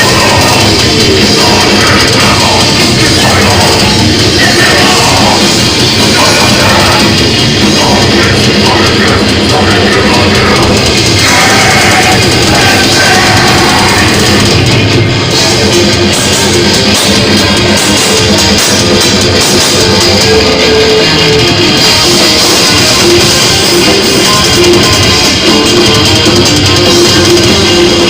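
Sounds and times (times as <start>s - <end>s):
heavy metal music: 0.0s - 28.0s.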